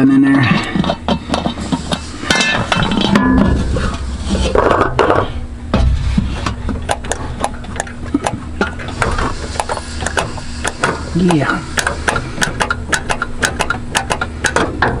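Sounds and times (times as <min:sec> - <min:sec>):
steady low rumble: 0:01.2 - 0:14.9.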